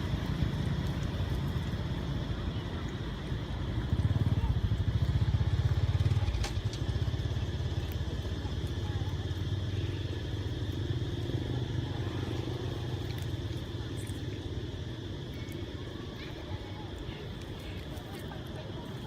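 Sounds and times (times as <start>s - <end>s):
small engine throbbing: 0.0s - 19.0s.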